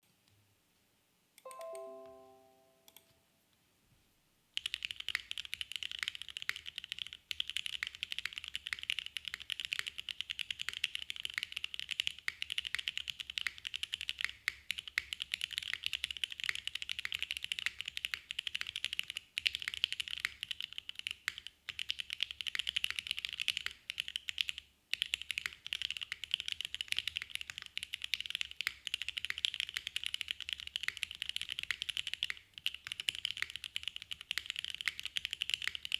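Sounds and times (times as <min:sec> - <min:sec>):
fast typing on mechanical keyboard: 0:04.6 - 0:35.9.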